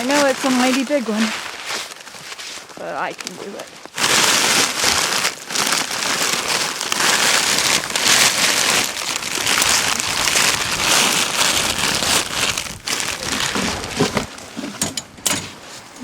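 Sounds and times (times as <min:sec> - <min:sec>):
branches dragged along ground: 0:00.0 - 0:14.8.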